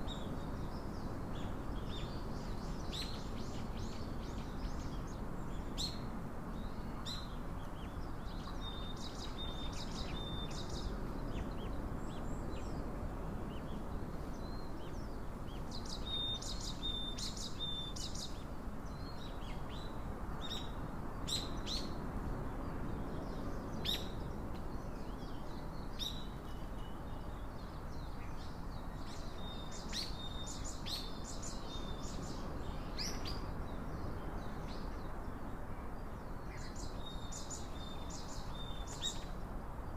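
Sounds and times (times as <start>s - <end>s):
low background hiss: 0.0s - 39.9s
small birds chipping and twittering: 0.0s - 39.9s.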